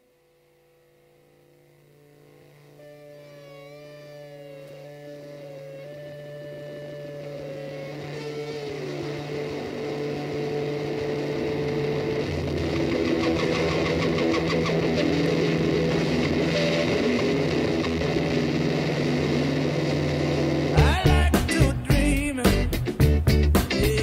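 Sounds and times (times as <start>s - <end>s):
held synth notes over drone: 2.0s - 22.0s.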